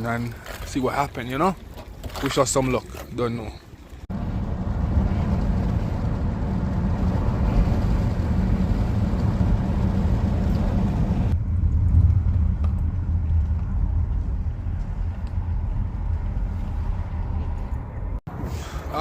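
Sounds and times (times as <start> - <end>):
car engine and tyres rumbling: 3.7 - 19.0.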